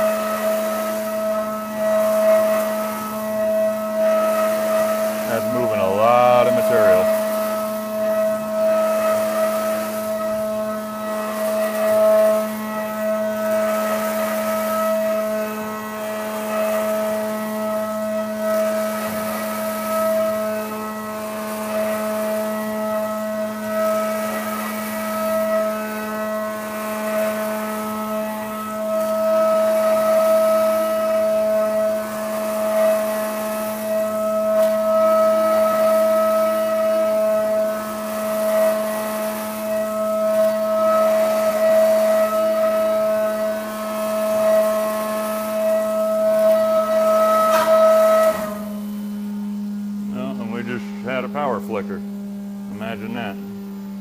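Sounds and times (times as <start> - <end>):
low machine hum: 0.0 - 54.0
machining center cutting whine: 0.0 - 54.0.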